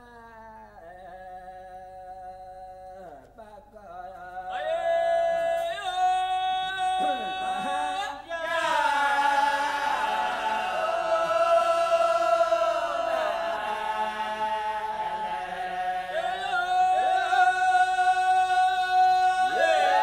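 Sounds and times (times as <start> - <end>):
men singing a cappella: 0.0 - 20.0.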